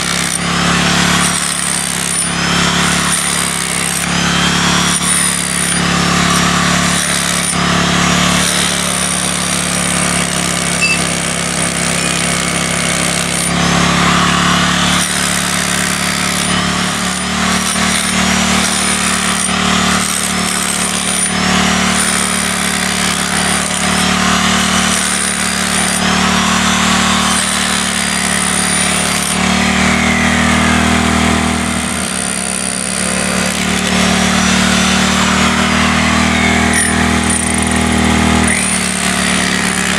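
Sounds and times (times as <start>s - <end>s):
hammer drill hammering into concrete: 0.0s - 39.9s.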